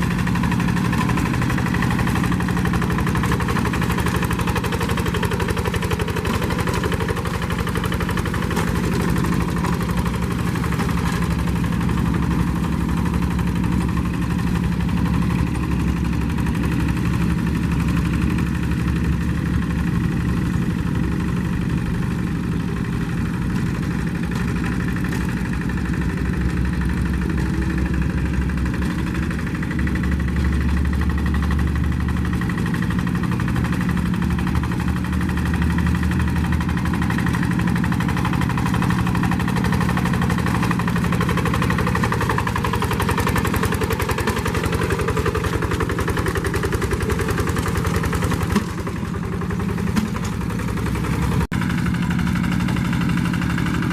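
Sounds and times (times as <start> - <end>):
tractor engine chugging: 0.0 - 53.9.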